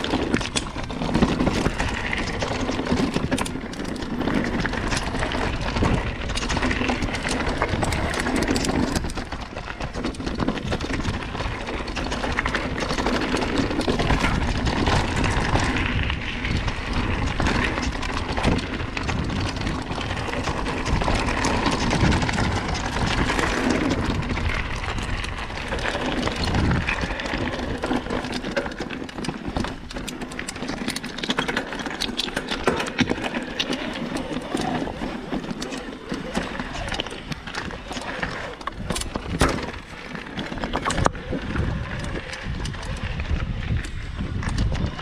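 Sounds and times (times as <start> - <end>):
bike clattering over stony ground: 0.0 - 45.0.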